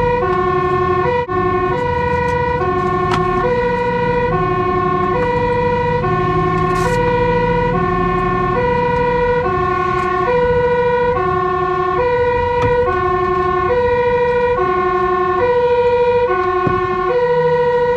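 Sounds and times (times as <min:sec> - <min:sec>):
low vehicle rumble: 0:00.0 - 0:17.9
two-tone siren: 0:00.0 - 0:17.9.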